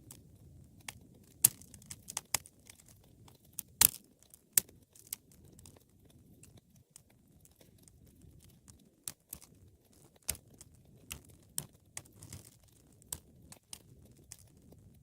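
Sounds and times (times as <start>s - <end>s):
faint rumble of flames: 0.0s - 15.0s
fire pops and snaps: 0.0s - 15.0s
wood fire crackling: 0.0s - 15.0s.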